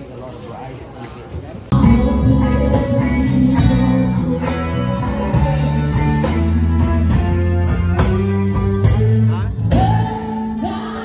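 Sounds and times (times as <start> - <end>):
guitar and bass music: 1.7 - 11.0.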